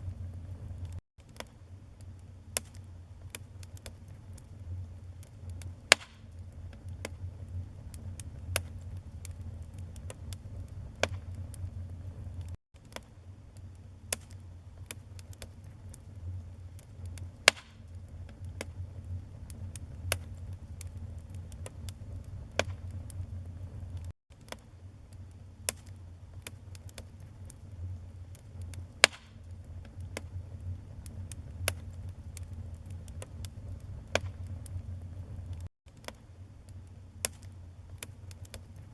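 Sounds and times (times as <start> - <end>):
fire rumbling: 0.0 - 1.0, 2.0 - 12.6, 13.6 - 24.1, 24.8 - 35.7
fire crackling and popping: 0.0 - 38.9.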